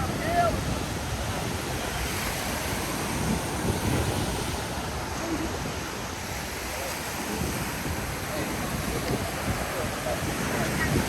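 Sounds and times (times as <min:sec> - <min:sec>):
ocean surf washing onto beach: 0:00.0 - 0:11.0
wind across microphone: 0:00.0 - 0:11.0.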